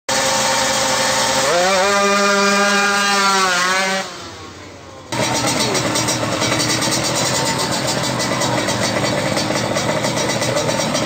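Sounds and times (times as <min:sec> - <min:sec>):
motorcycle engine revving: 0:00.1 - 0:11.0
rough engine running: 0:00.1 - 0:11.0.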